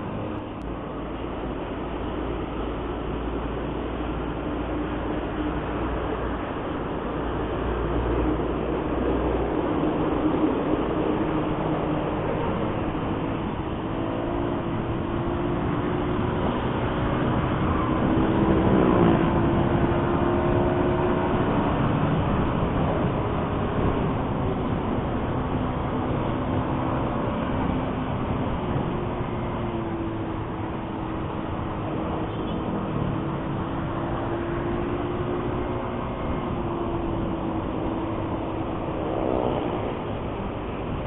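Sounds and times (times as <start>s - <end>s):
highway traffic noise: 0.0s - 41.0s.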